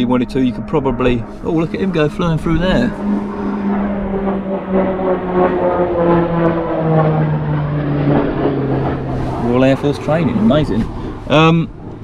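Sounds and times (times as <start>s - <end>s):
jet engine drone passing: 0.0s - 12.0s.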